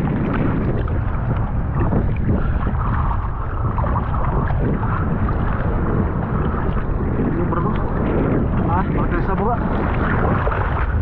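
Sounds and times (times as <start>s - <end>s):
waves sloshing and splashing: 0.0s - 11.0s
wind rumbling on microphone: 0.0s - 11.0s.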